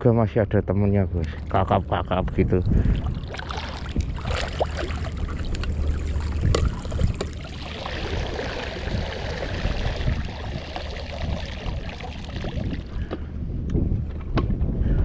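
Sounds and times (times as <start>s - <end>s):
wind on microphone: 0.8s - 15.0s
lapping water: 1.2s - 13.2s.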